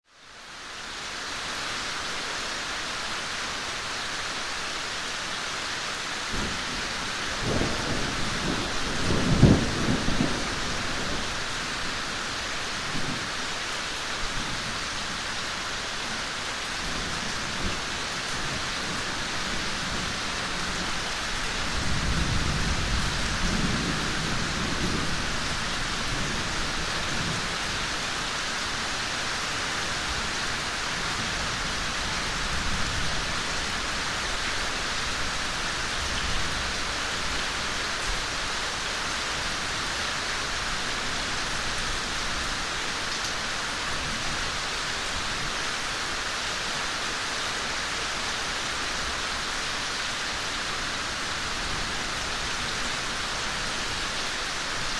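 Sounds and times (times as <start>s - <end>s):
rain falling in forest: 0.0s - 54.9s.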